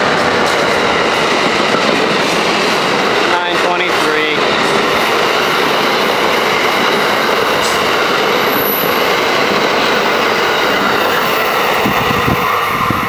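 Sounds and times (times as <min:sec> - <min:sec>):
train wheels rushing on rail: 0:00.0 - 0:13.0.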